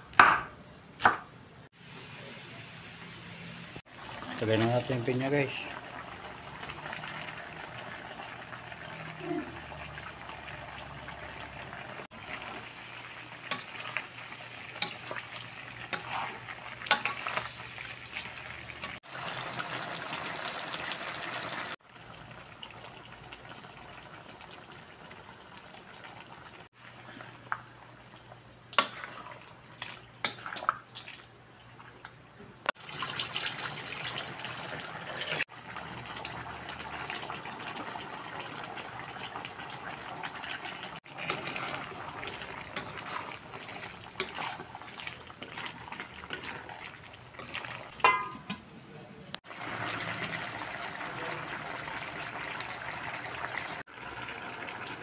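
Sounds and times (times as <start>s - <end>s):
sauce sizzling and bubbling: 3.8s - 32.1s, 32.7s - 48.3s, 49.4s - 55.0s.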